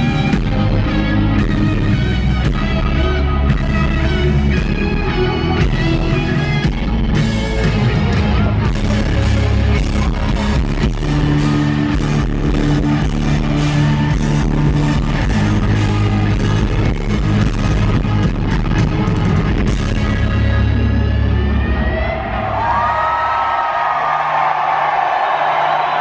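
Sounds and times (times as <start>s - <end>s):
bass guitar: 0.0s - 23.6s
electric guitar: 0.0s - 24.0s
drums: 0.0s - 26.0s.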